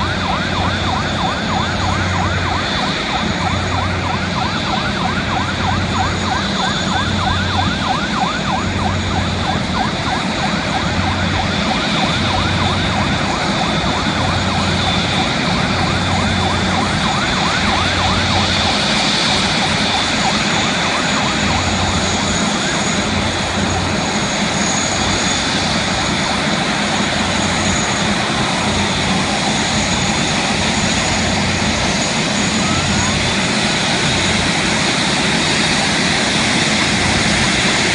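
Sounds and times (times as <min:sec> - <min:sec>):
fire truck sirens wailing: 0:00.0 - 0:37.9
jet engines high whine: 0:00.0 - 0:37.9.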